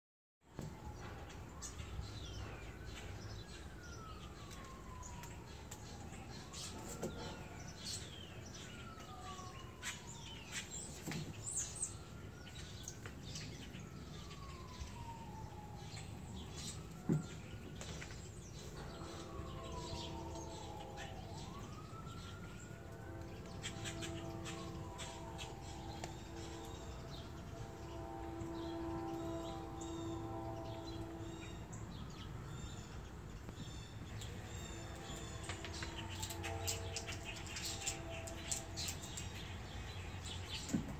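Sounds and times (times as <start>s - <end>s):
distant siren wailing: 0.4s - 40.9s
birds chirping: 0.6s - 40.9s.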